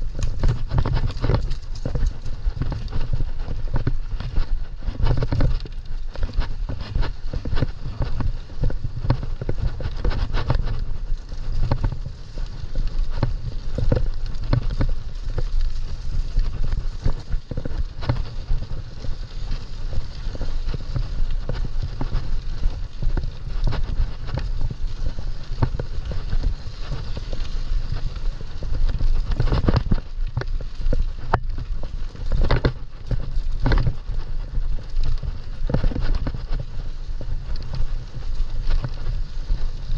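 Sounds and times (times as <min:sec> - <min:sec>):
constant low rumble: 0:00.0 - 0:39.9
mountain bike rattling on trail: 0:00.0 - 0:39.9.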